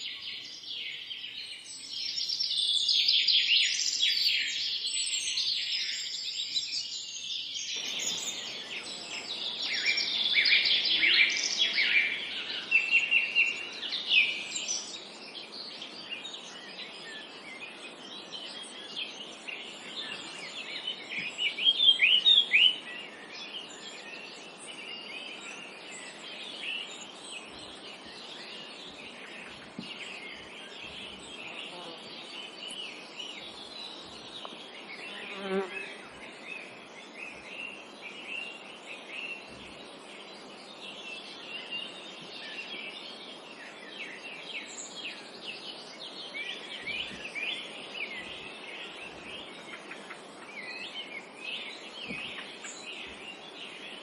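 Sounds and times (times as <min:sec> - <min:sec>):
small birds chirping and singing: 0:00.0 - 0:54.0.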